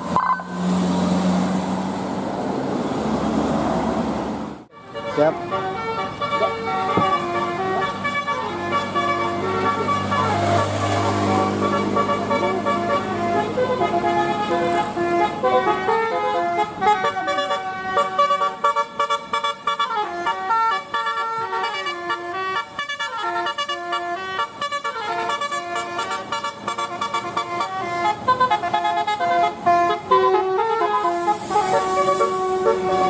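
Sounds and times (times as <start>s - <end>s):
musical air horn tune: 4.7s - 33.0s.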